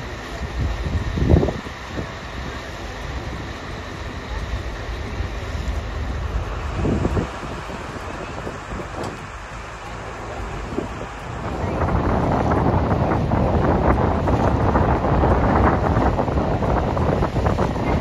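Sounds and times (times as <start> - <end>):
boat engine rumble: 0.0 - 18.0
wind buffeting microphone: 0.0 - 18.0.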